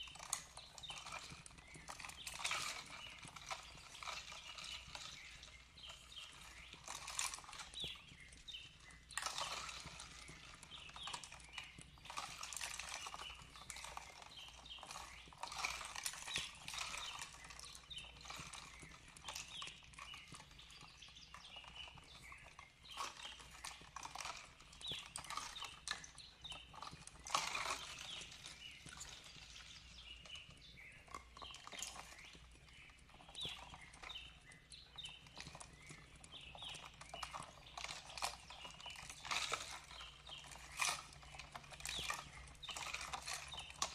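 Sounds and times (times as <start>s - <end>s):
fire crackling and popping: 0.0s - 43.9s
small birds chirping: 0.0s - 43.9s.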